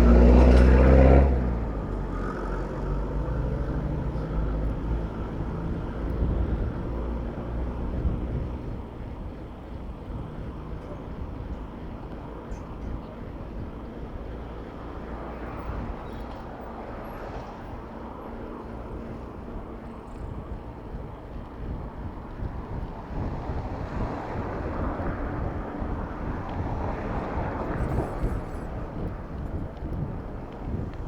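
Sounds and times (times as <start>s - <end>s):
street traffic: 0.0s - 31.0s
wind rushing over microphone: 0.0s - 31.0s.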